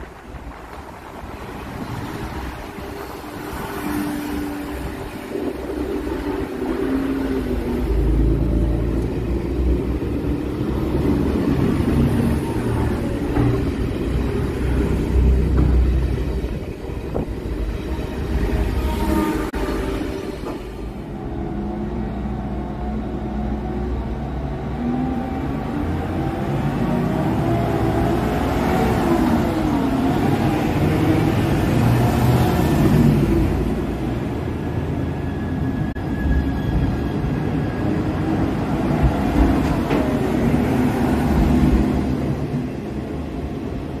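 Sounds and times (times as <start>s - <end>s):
wheels rumbling on rail: 0.0s - 44.0s
diesel train engines wavering: 0.1s - 44.0s.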